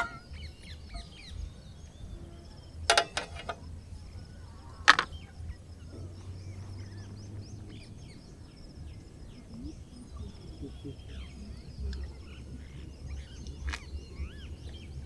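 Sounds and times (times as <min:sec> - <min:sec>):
high insect drone: 0:00.0 - 0:15.0
small birds chirping: 0:00.0 - 0:15.0.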